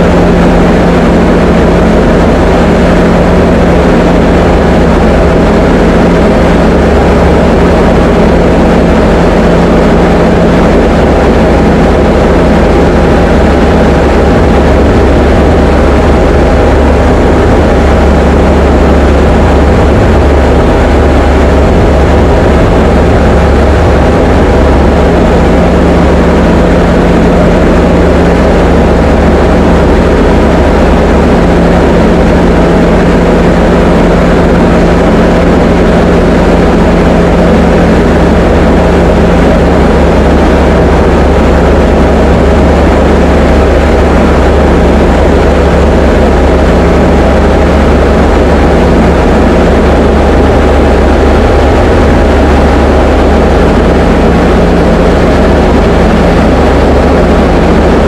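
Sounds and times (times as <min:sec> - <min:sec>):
light aircraft engine and propeller drone: 0:00.0 - 0:58.0.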